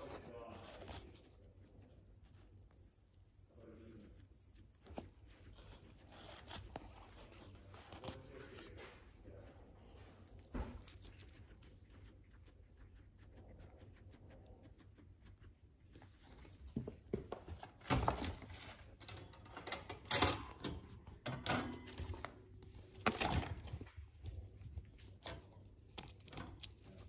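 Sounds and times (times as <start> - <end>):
guinea pig chewing grass: 0.0 - 17.7, 22.0 - 27.0.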